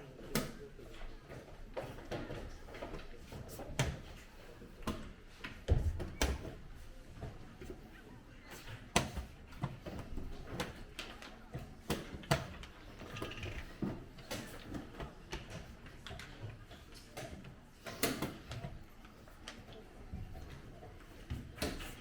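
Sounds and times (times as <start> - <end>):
faint murmur of voices: 0.0 - 22.0.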